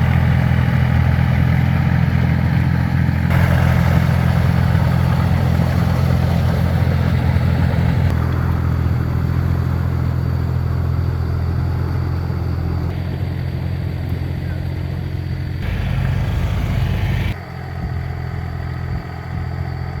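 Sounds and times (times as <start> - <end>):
rough engine clatter: 0.0 - 20.0
tractor engine droning: 0.0 - 20.0.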